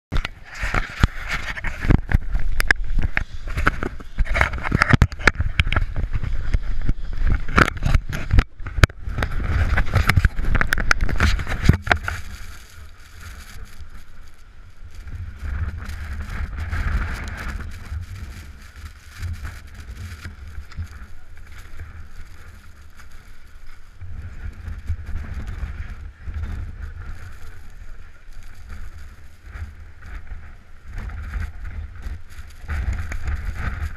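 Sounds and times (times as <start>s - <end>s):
wind buffeting microphone: 0.1s - 33.9s
steady low rumble: 0.2s - 33.9s.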